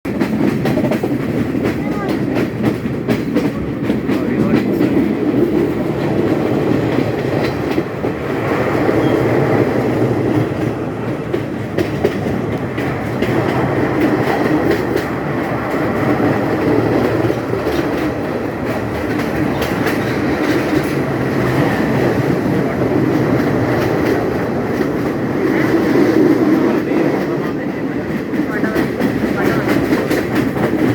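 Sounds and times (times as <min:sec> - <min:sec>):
train rumbling on tracks: 0:00.0 - 0:30.9
wheels clicking on rails: 0:00.1 - 0:30.9.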